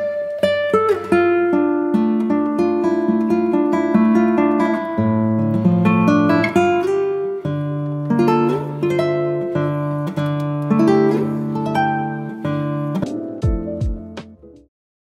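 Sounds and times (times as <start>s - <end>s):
plucked guitar notes: 0.0s - 14.7s.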